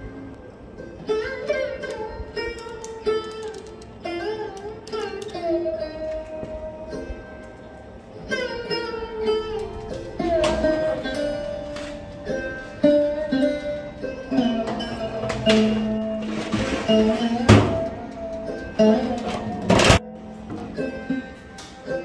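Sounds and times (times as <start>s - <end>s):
plucked string instrument melody: 0.0s - 22.0s.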